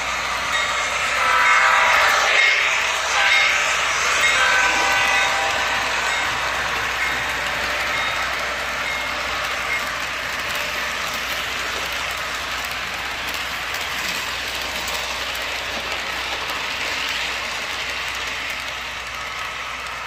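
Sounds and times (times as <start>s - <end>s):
model train wheels rattling: 0.0s - 20.0s.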